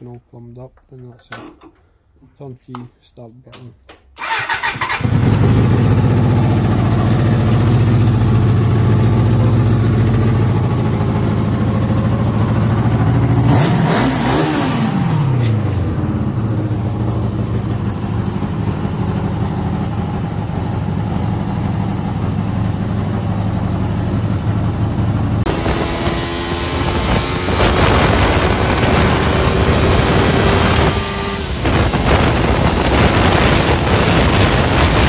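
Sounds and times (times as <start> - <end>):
motorcycle engine idling and revving: 4.2 - 35.0.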